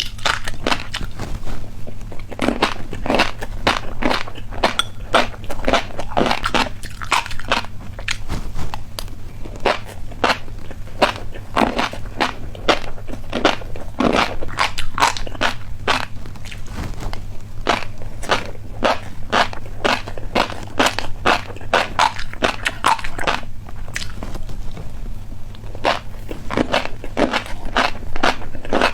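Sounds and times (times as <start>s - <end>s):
chewing crunchy snack: 0.0s - 28.9s
low hum: 0.0s - 28.9s.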